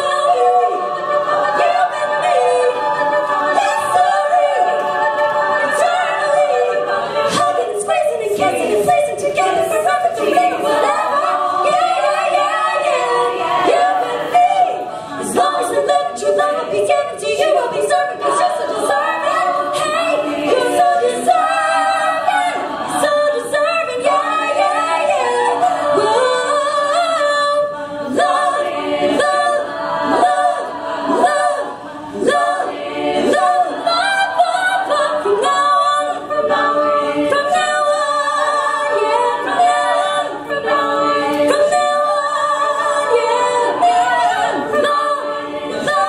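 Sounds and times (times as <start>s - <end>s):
women singing a cappella: 0.0s - 46.0s.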